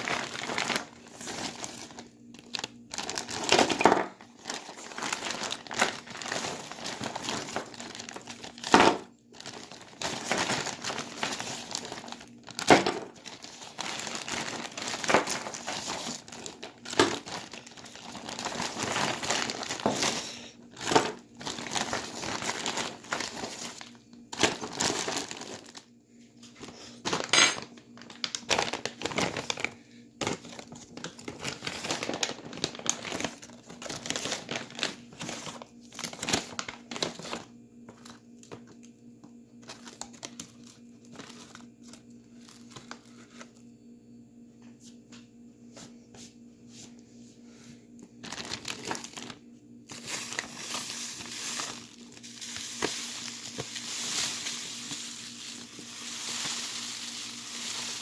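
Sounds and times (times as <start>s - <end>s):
plastic bag crinkling: 0.0s - 38.8s, 39.6s - 43.6s, 48.2s - 58.0s.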